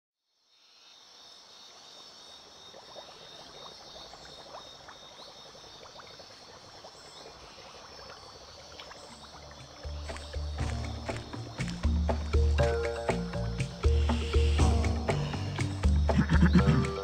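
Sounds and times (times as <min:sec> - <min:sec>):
water trickling and lapping: 0:01.9 - 0:17.0
small water plips: 0:02.7 - 0:16.8.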